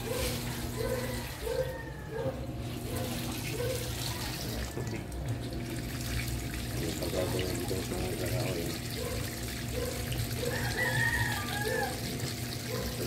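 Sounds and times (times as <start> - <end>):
water pouring from drain hose: 0.0 - 1.4, 2.6 - 13.0.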